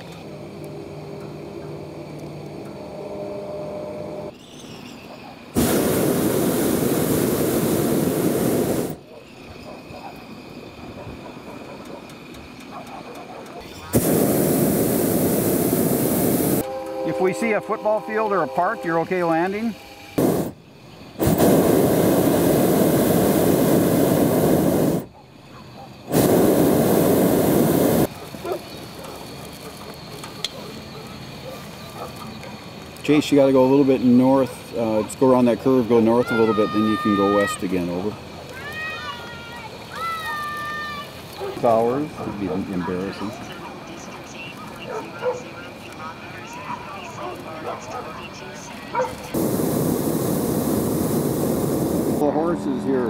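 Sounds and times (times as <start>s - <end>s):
propane burner roaring: 0.0s - 53.0s.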